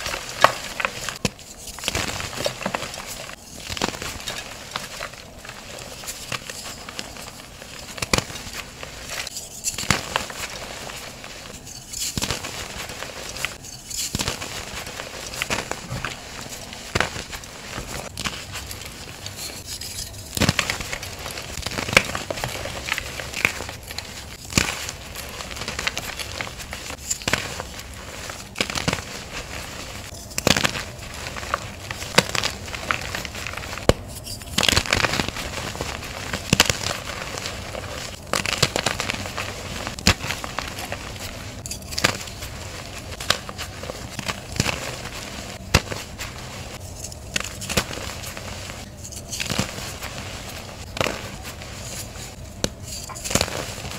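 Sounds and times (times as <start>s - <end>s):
chalk crunching and crackling: 0.0s - 53.9s
soft powdery rustling: 0.0s - 53.9s.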